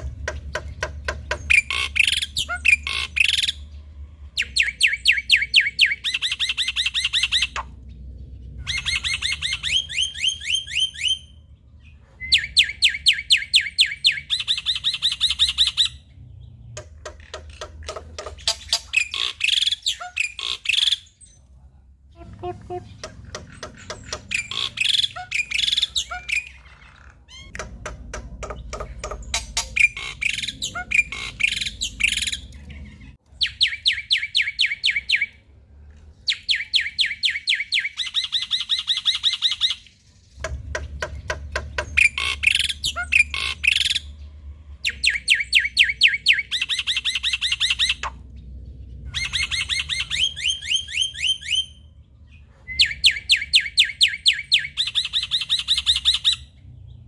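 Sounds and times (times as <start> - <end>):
myna bird singing: 0.0 - 57.0.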